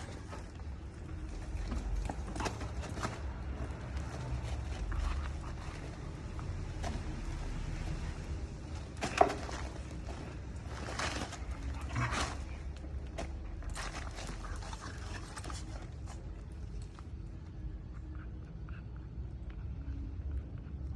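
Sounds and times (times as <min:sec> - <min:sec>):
puppies scuffling: 0:00.0 - 0:17.2.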